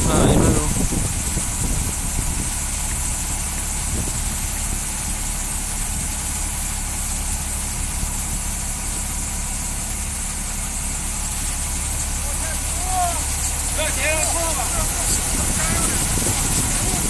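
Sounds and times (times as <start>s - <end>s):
low machine hum: 0.0s - 17.0s
constant high hiss: 0.3s - 17.0s.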